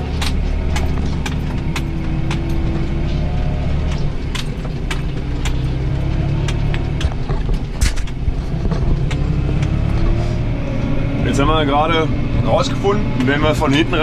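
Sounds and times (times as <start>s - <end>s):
sharp clicks and rattles: 0.0s - 14.0s
tractor engine running: 0.0s - 14.0s.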